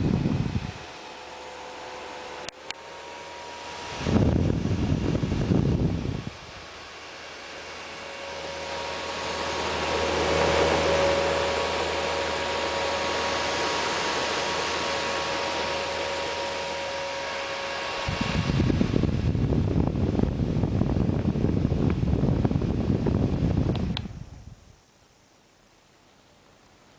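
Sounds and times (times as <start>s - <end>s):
portable fan whirring: 0.0s - 26.9s.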